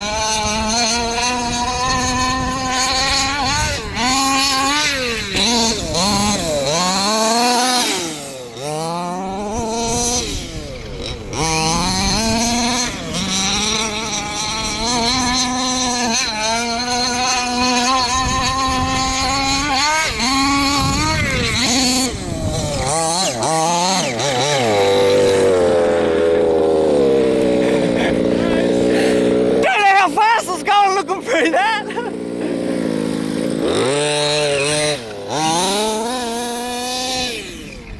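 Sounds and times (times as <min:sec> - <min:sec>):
two-stroke engine howling: 0:00.0 - 0:37.9.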